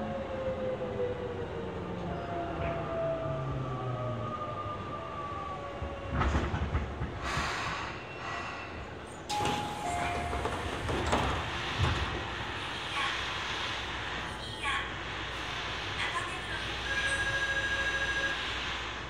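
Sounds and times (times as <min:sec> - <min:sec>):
subway station and cabin noise: 0:00.0 - 0:19.0.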